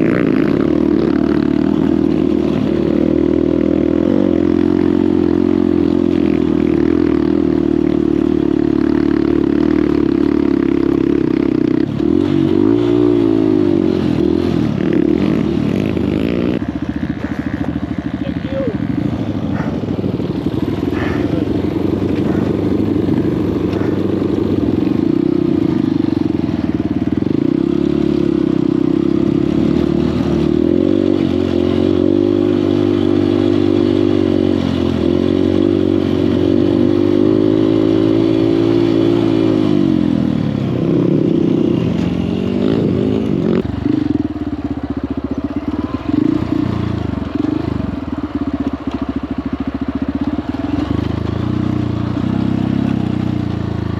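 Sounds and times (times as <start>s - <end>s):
engine clatter: 0.0s - 53.9s
motorcycle engine running: 0.0s - 53.9s.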